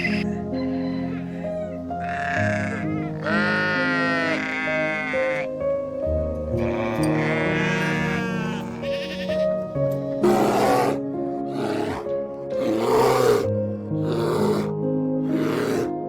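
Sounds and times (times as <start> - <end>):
animal calling: 0.0 - 15.9
soft instrumental music: 0.0 - 16.0.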